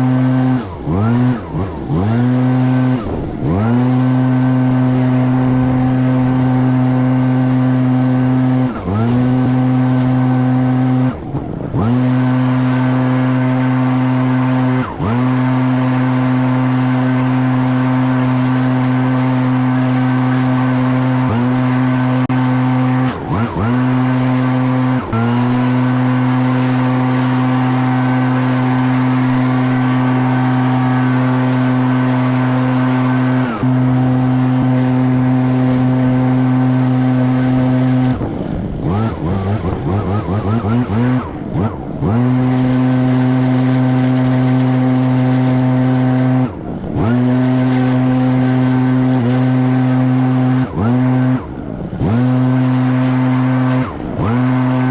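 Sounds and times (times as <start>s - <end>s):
leaf blower engine revving: 0.0s - 54.9s.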